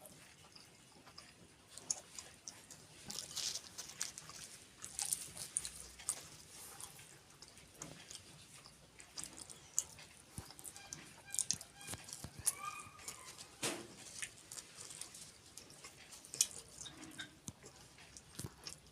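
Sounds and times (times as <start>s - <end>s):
person chewing food: 0.0s - 18.9s.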